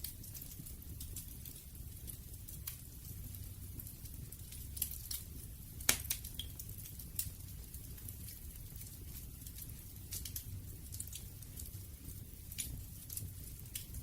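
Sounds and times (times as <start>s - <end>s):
bonfire crackling and snapping: 0.0s - 14.0s.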